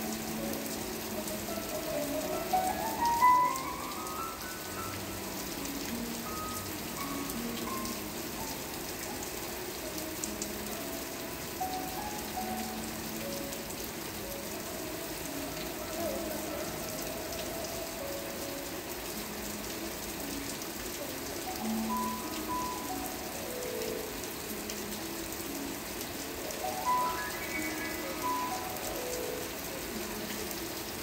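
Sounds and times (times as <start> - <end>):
soft slow background music: 0.0 - 31.0
steady rain falling: 0.0 - 31.0.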